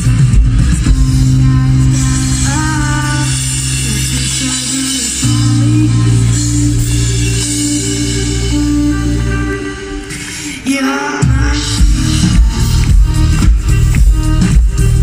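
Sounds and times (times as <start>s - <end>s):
low keyboard chords: 0.0s - 10.5s, 11.5s - 15.0s
live pop-rock band instrumental: 0.0s - 15.0s.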